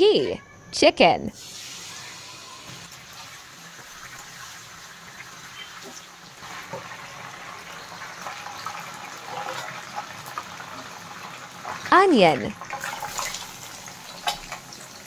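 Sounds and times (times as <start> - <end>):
chicken sizzling in a wok: 1.3 - 12.0, 12.6 - 15.0.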